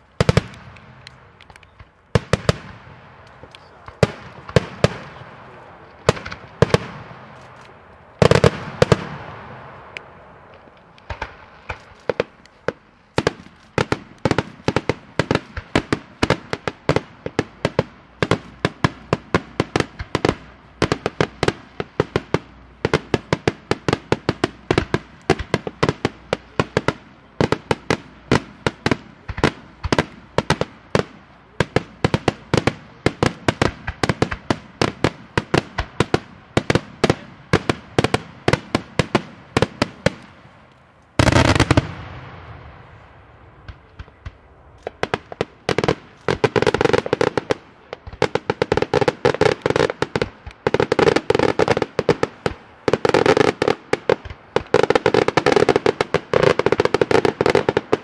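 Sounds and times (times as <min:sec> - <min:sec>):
fireworks bursting with sharp bangs: 0:00.0 - 0:58.0.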